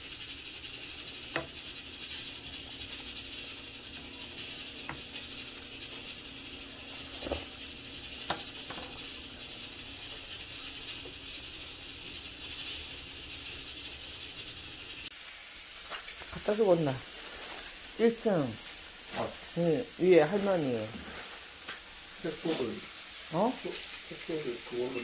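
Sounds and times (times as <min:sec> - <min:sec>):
sharp ticks and pops: 0:00.0 - 0:19.6, 0:21.5 - 0:24.9
soup bubbling and hissing in pot: 0:00.0 - 0:25.0.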